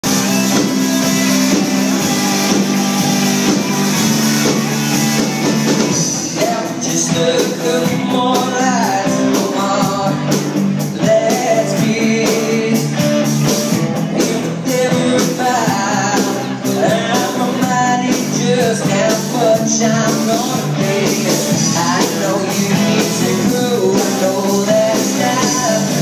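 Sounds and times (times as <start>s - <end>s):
live rock band playing: 0.0s - 26.0s
man singing: 4.4s - 26.0s.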